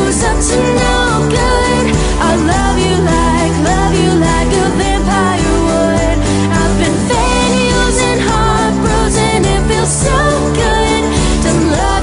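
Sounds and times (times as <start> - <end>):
pop song playing loudly: 0.0 - 12.0.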